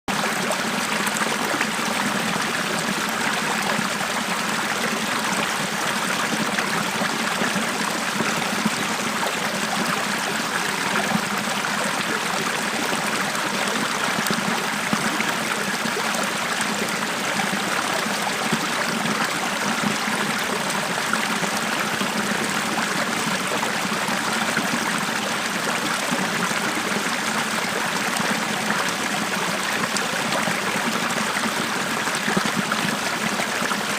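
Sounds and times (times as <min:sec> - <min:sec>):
stream trickling over stones: 0:00.1 - 0:33.9.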